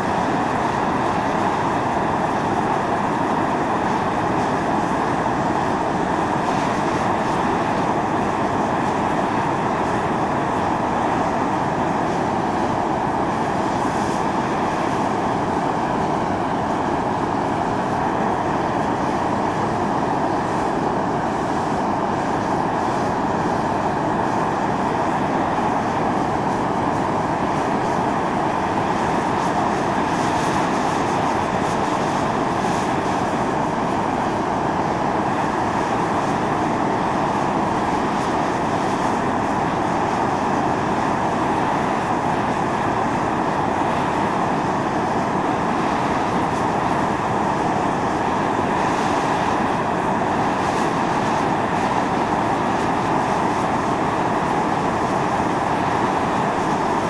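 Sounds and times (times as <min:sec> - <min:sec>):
fumarole venting steam hiss: 0:00.0 - 0:57.0.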